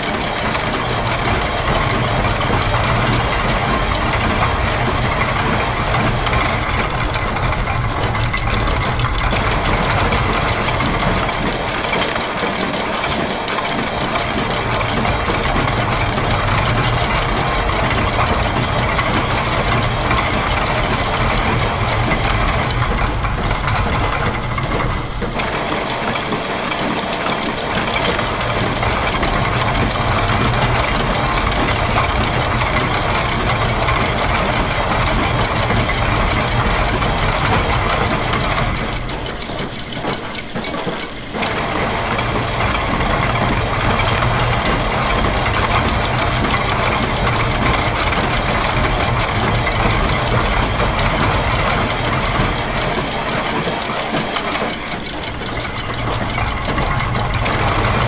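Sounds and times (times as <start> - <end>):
gears and ratchets clattering: 0.0 - 58.0
low machine hum: 0.0 - 58.0.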